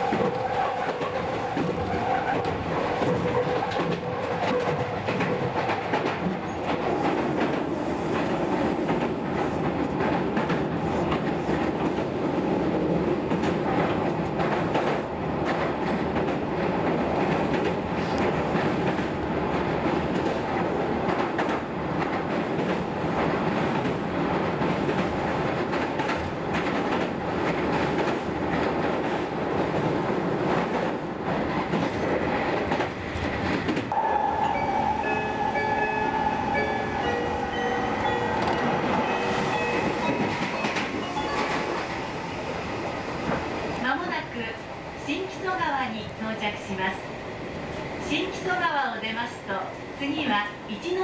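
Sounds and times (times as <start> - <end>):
train rumble and hiss: 0.0 - 51.0.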